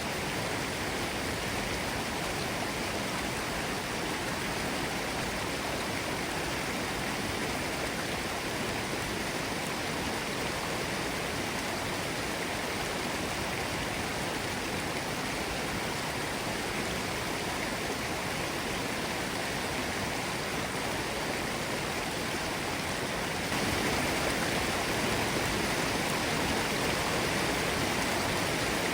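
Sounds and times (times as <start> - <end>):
stream rushing over rocks: 0.0 - 28.9.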